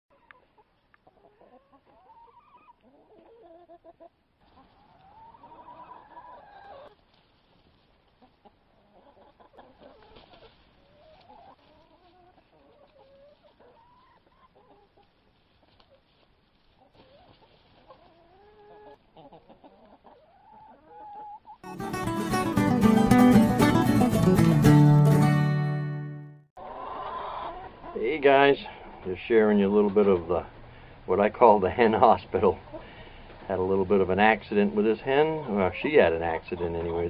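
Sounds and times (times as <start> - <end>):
hens clucking: 0.1 - 24.7, 26.6 - 37.0.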